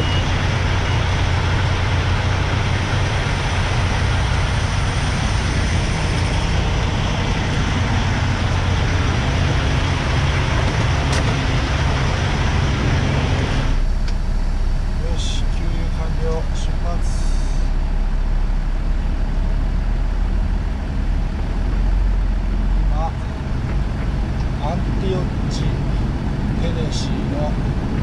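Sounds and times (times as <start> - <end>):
road and wind hiss: 0.0 - 28.0
truck engine drone: 0.0 - 28.0.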